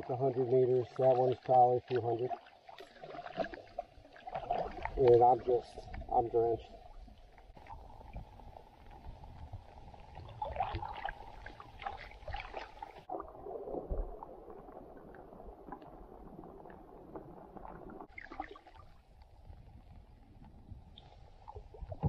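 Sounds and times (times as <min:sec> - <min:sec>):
canoe paddle splashing: 0:00.0 - 0:19.5
water gurgling: 0:00.0 - 0:22.0.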